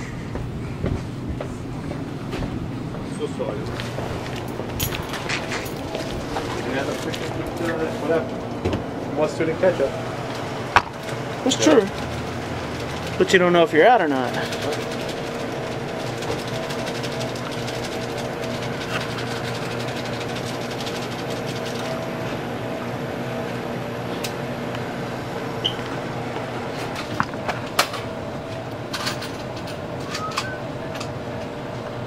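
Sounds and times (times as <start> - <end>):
electrical hum of appliances: 0.0 - 32.0.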